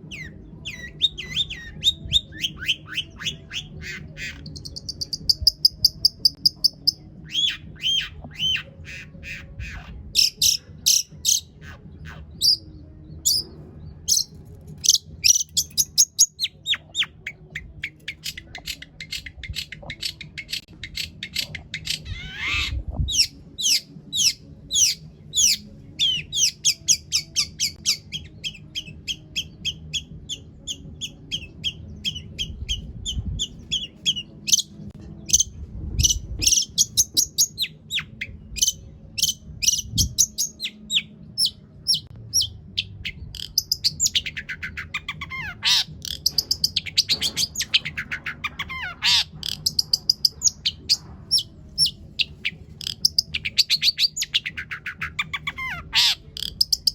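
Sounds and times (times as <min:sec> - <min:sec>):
bird singing sharp repeated notes: 0:00.0 - 0:56.9.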